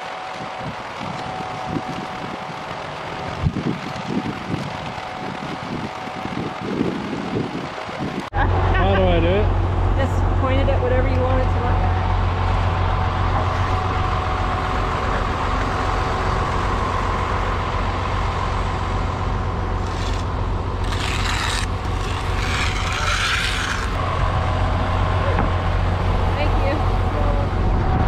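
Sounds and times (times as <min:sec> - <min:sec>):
large vehicle engine running: 0:00.0 - 0:28.0.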